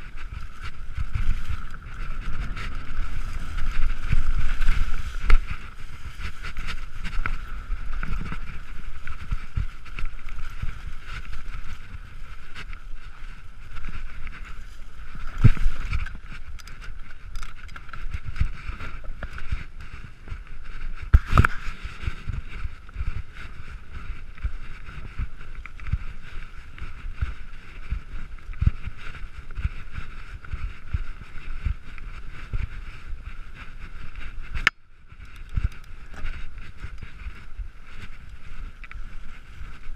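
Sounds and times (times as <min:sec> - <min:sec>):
bike rattling on bumps: 0:00.0 - 0:39.9
bike tyres rolling over dirt: 0:00.0 - 0:39.9.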